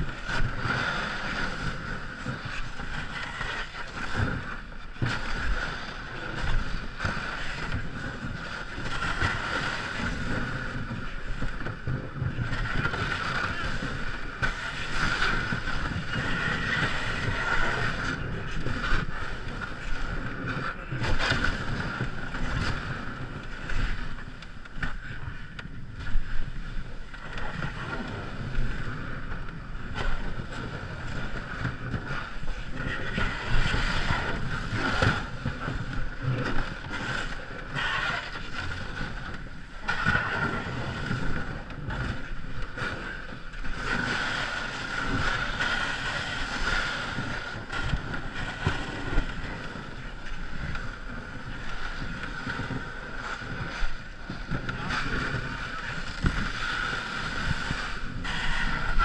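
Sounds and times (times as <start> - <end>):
water noise: 0.0 - 59.0
wind noise on microphone: 0.0 - 59.0.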